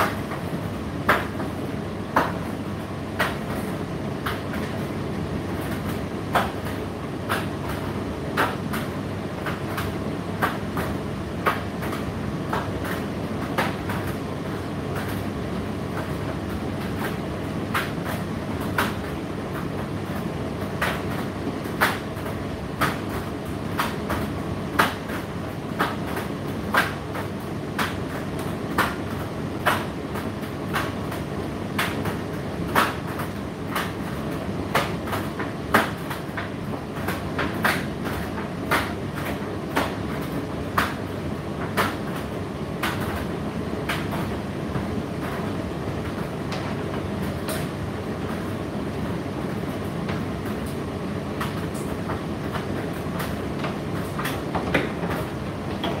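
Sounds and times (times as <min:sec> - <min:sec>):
tumble dryer rumbling: 0:00.0 - 0:56.0.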